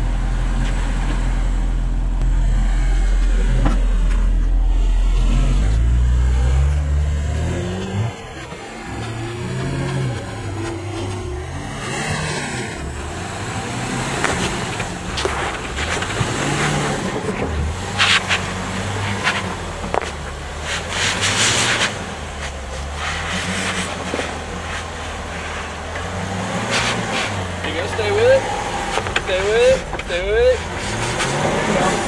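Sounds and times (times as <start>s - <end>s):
car engine running low: 0.0s - 32.0s.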